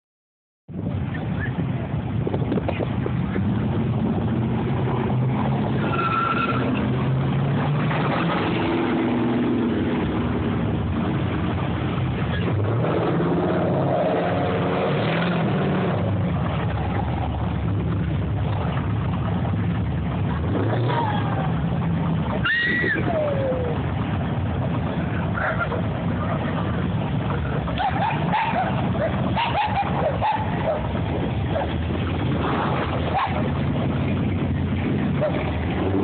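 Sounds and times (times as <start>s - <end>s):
car engines running: 0.7s - 36.0s
traffic noise: 0.7s - 36.0s.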